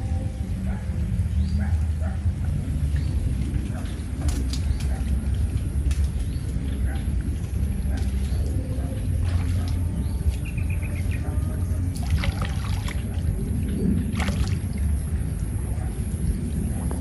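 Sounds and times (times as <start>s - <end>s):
steady low rumble: 0.0s - 17.0s
water splashing and trickling: 1.0s - 17.0s.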